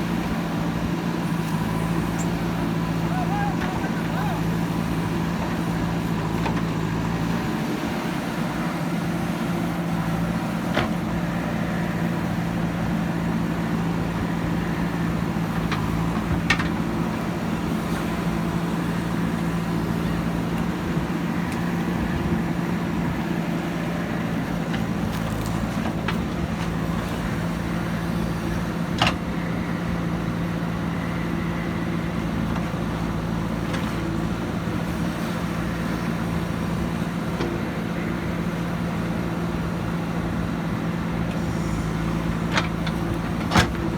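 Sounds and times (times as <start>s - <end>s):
diesel engine of heavy machinery: 0.0s - 43.9s.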